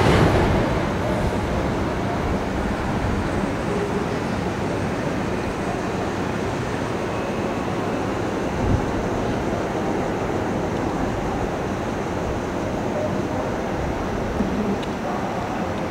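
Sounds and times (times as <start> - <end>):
electric train running on tracks: 0.0 - 15.9.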